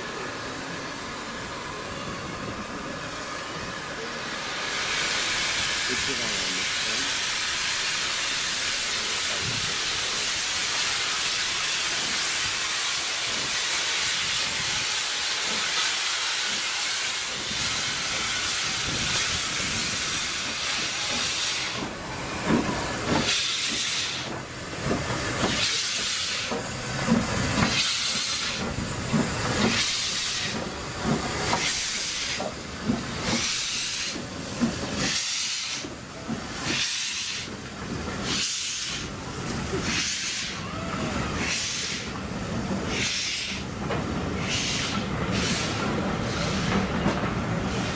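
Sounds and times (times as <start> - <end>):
steam hissing: 0.0 - 47.9
steam locomotive exhaust chuffs: 2.2 - 47.9.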